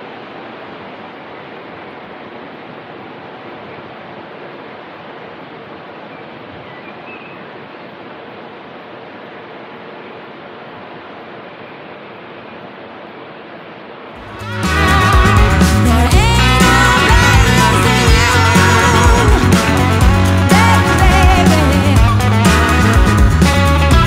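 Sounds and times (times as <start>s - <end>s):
steady rushing noise: 0.0s - 24.0s.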